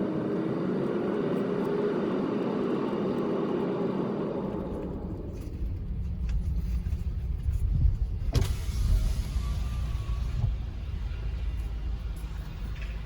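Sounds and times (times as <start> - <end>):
car rumble inside cabin: 0.5 - 13.0.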